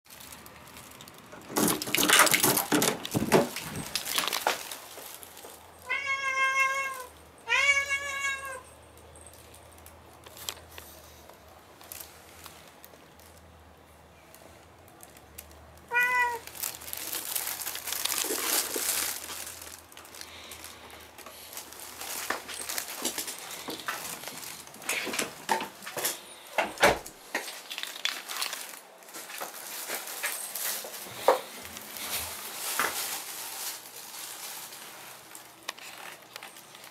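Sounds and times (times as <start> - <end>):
rustling and crinkling: 0.1 - 36.9.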